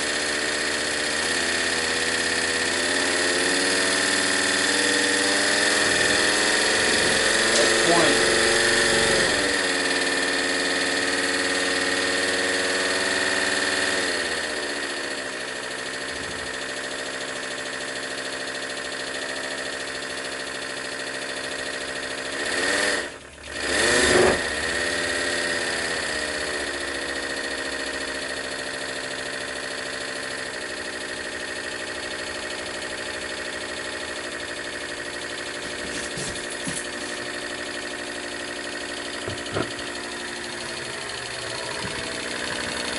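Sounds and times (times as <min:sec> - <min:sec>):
model radial engine running: 0:00.0 - 0:42.9.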